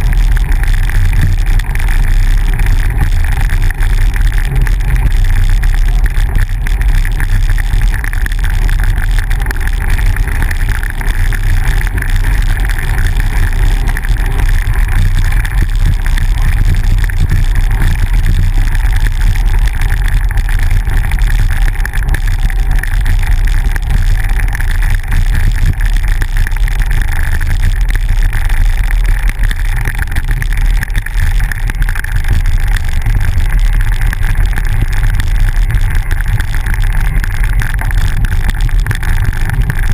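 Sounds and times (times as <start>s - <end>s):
bicycle rolling on dirt road: 0.0s - 39.9s
constant hiss: 0.0s - 39.9s
wind rumble on microphone: 0.0s - 39.9s.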